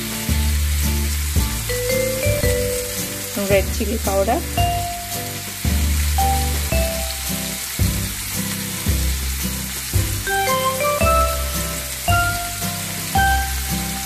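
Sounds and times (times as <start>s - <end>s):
background music: 0.0s - 14.0s
chicken sizzling in oil: 0.0s - 14.0s.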